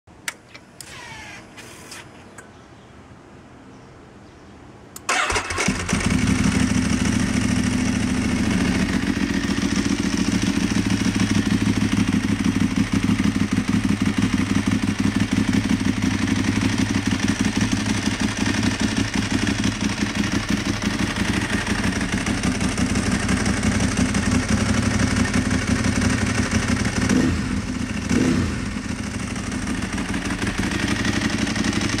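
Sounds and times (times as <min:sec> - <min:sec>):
motorcycle engine idling: 0:05.1 - 0:32.0.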